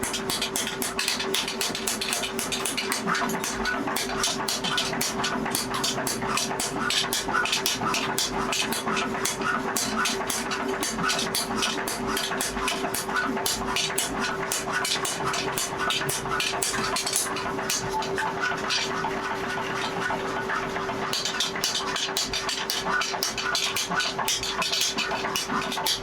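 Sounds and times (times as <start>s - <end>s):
steady machine hum: 0.0s - 24.4s.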